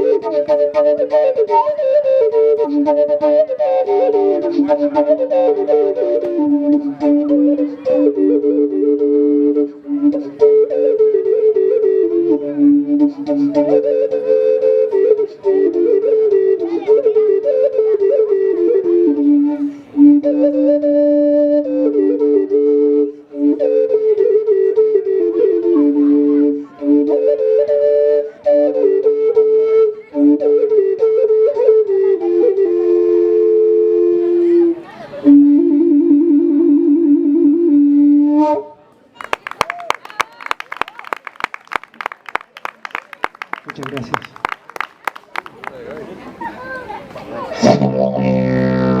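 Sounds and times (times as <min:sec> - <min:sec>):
flute-like woodwind music: 0:00.0 - 0:45.8.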